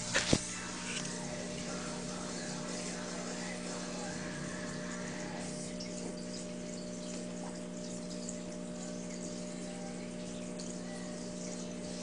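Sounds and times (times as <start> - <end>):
small water pump humming: 0.0 - 12.0
water trickling: 0.0 - 12.0.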